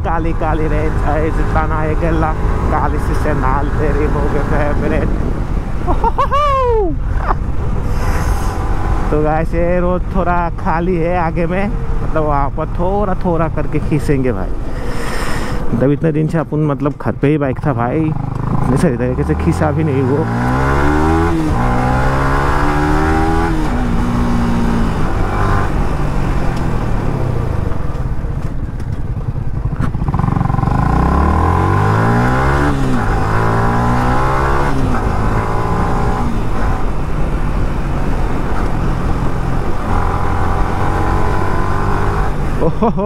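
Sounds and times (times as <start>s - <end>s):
motorcycle engine accelerating: 0.0s - 14.6s, 17.9s - 43.0s.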